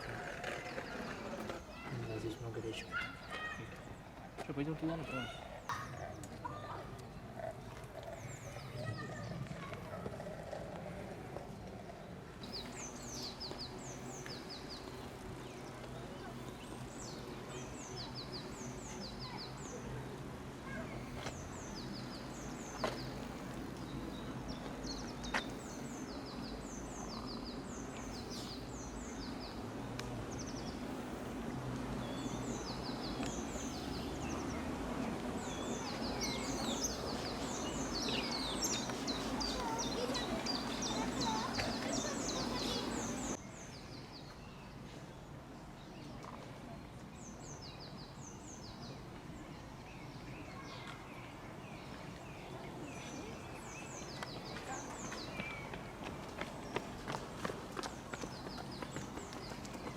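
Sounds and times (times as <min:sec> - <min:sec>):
outdoor background noise: 0:00.0 - 0:59.9
small birds chirping: 0:00.0 - 0:59.9.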